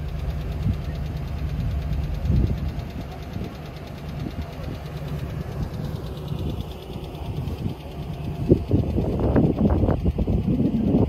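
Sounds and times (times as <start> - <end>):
engine rumble: 0.0 - 11.0
vehicle engine idling: 0.0 - 11.0.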